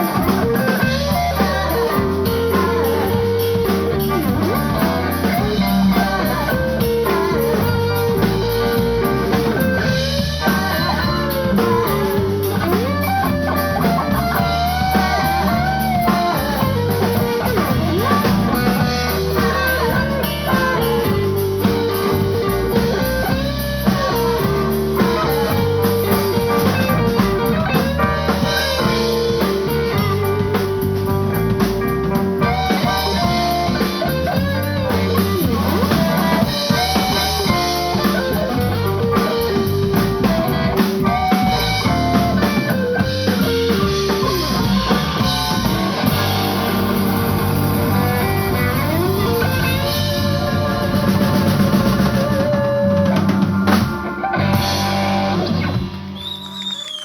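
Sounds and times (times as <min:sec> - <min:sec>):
steady low bass: 0:00.0 - 0:52.5
electric guitar lead: 0:00.0 - 0:56.9
drum kit: 0:00.0 - 0:57.0.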